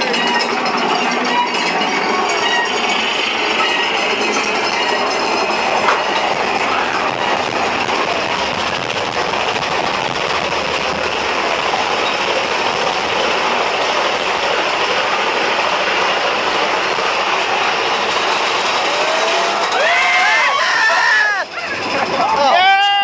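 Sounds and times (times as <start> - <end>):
roller coaster wheels rattling on rail: 0.0 - 23.0.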